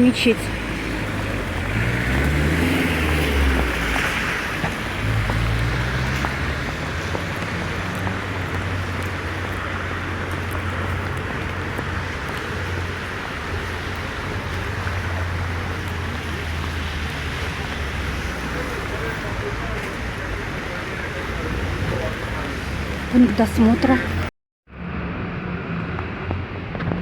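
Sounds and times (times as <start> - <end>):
vehicle engines rumbling: 0.0 - 27.0.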